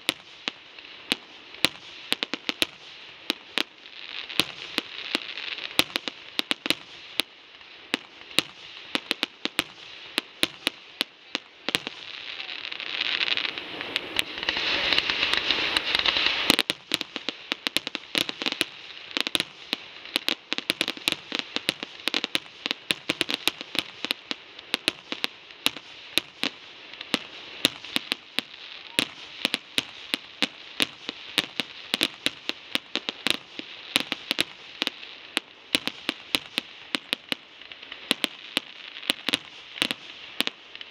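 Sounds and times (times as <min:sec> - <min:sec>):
fireworks popping and crackling: 0:00.0 - 0:40.9.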